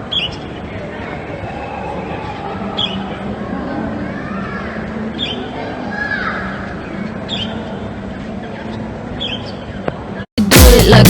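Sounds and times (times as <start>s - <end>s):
background hum and murmur: 0.0s - 10.3s.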